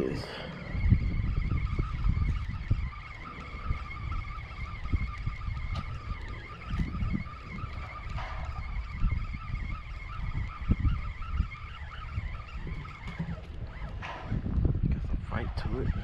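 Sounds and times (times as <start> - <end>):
high-pitched drone: 0.0 - 16.0
wind buffeting microphone: 0.0 - 16.0.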